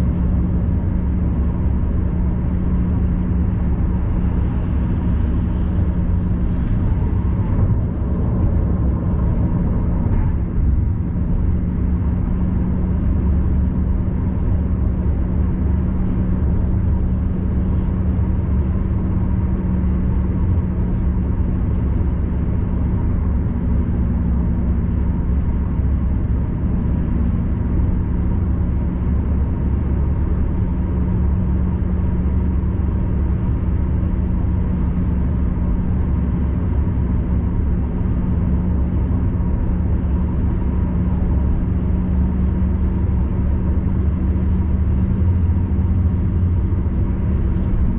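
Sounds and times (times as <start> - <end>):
car cabin road drone: 0.0 - 47.9.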